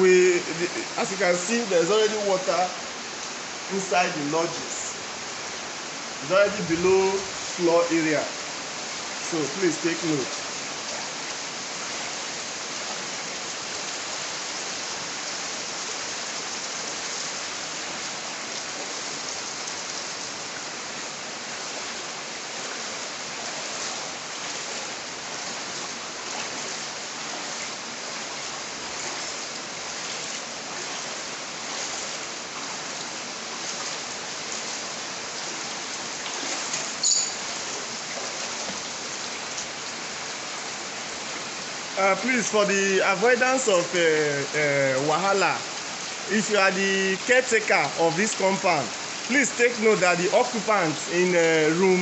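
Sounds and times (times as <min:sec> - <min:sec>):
hissing water noise: 0:00.0 - 0:52.0.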